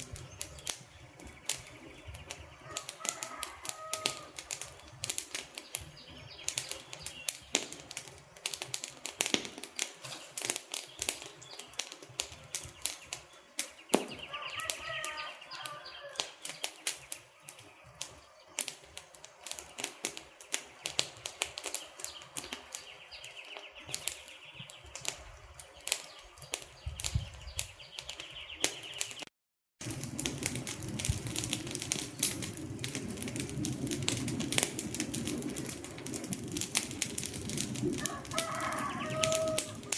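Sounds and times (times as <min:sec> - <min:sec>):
low rumble of flames: 0:00.0 - 0:29.2, 0:29.8 - 0:39.9
wood fire crackling: 0:00.0 - 0:39.9.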